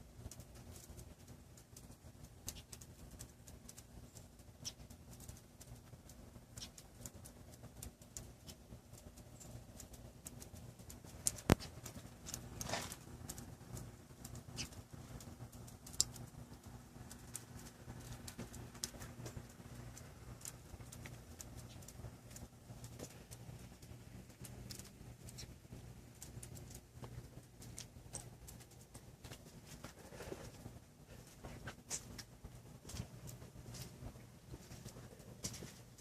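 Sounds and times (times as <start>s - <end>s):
steady low hum: 0.0s - 36.0s
light ticks and taps: 0.2s - 36.0s.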